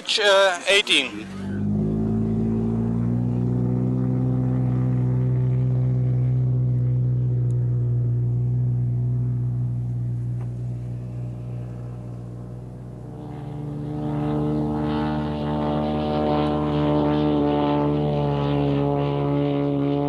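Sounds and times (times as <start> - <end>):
model aircraft engine running: 0.0 - 20.0.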